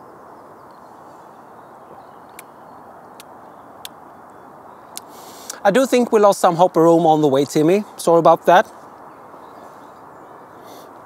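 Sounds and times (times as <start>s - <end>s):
low outdoor hiss: 0.0s - 11.0s.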